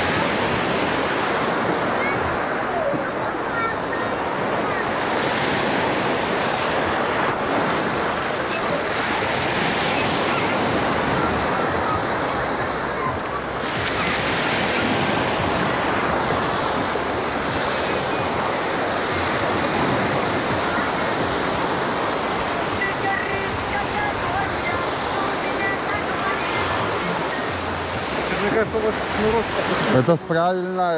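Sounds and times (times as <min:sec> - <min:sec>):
waves breaking on a sandy beach: 0:00.0 - 0:30.9.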